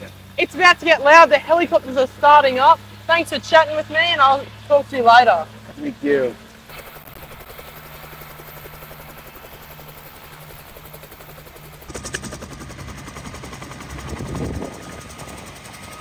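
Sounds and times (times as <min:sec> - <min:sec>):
helicopter rotor beating: 0:00.0 - 0:16.0.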